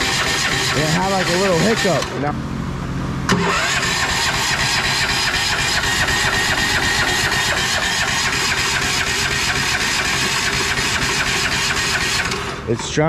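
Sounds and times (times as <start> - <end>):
electric starter cranking engine: 0.0 - 2.3, 3.3 - 13.0.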